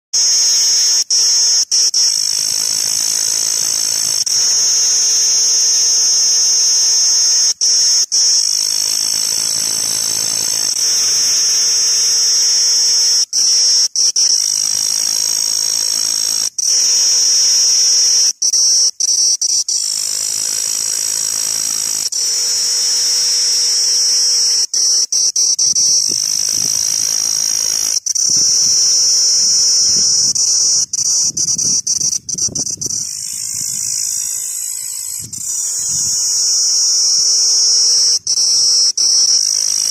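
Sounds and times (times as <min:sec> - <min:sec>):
cicada buzzing: 0:00.2 - 0:39.9.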